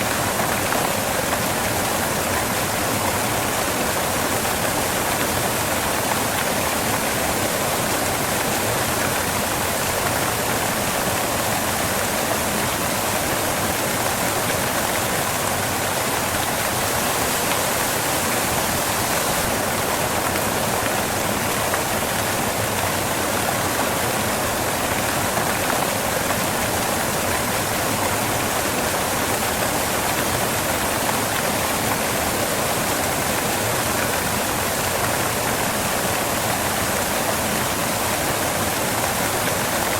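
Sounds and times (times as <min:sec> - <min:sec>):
waterfall crashing onto rocks: 0:00.0 - 0:39.9.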